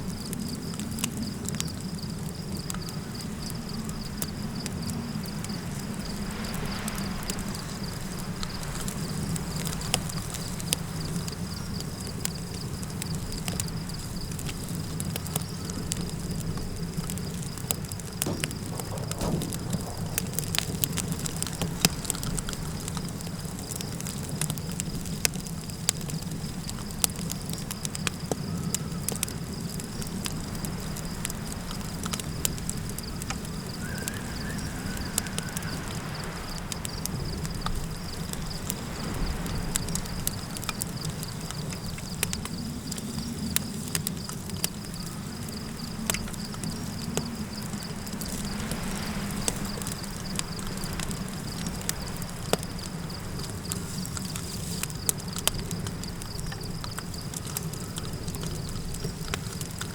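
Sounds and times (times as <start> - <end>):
campfire crackling and popping: 0.0 - 59.9
crickets chirring: 0.0 - 59.9.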